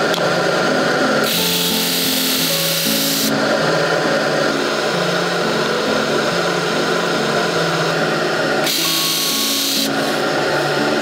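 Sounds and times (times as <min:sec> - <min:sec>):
drill press spinning sanding drum: 0:00.0 - 0:11.0.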